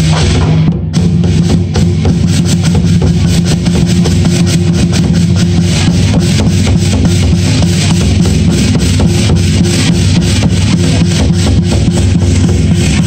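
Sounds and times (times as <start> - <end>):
drums and cymbals beating: 0.0 - 13.0.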